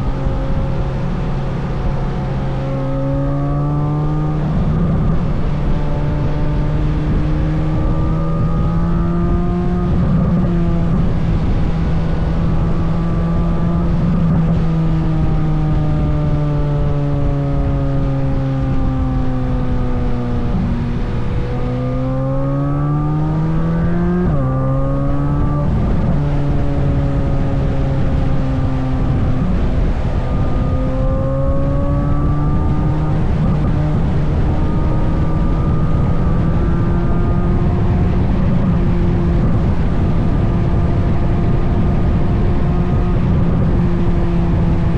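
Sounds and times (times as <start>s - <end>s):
car engine on trailing throttle: 0.0s - 44.9s.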